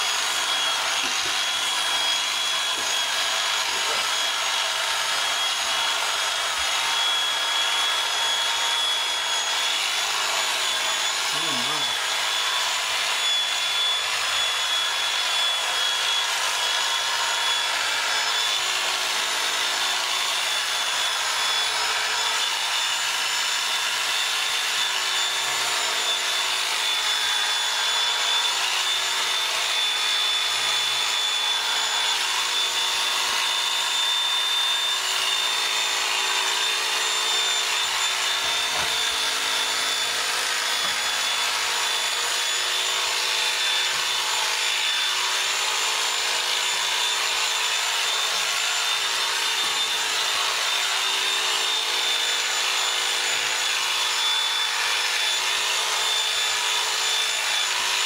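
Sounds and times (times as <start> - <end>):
electric shears humming and whining: 0.0 - 58.0.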